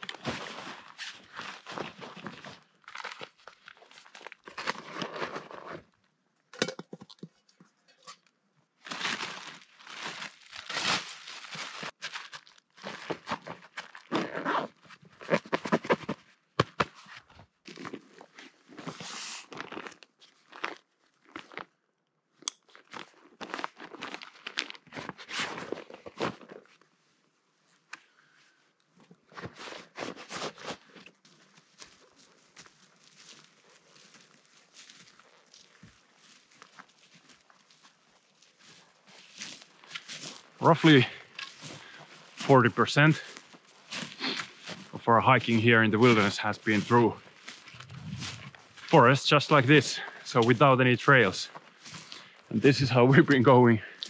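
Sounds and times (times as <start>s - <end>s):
rustling and crinkling: 0.0s - 6.0s, 8.8s - 21.6s, 22.7s - 27.0s, 28.9s - 54.0s.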